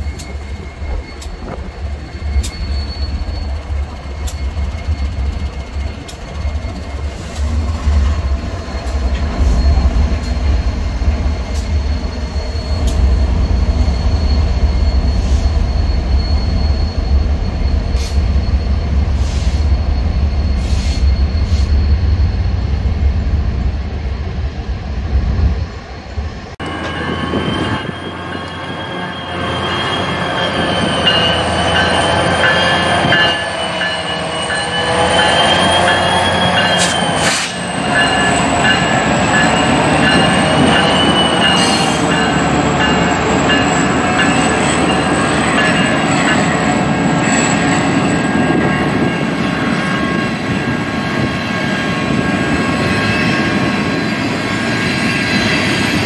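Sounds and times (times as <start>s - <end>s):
train clanks: 0.0s - 23.1s, 26.5s - 56.0s
freight train rumbling past: 0.0s - 56.0s
steel wheels squealing on rail: 0.0s - 56.0s.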